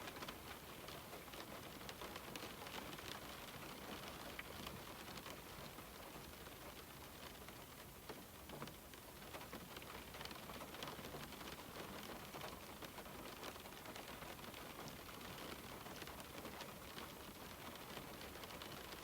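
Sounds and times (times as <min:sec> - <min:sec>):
rain on a window: 0:00.0 - 0:19.0.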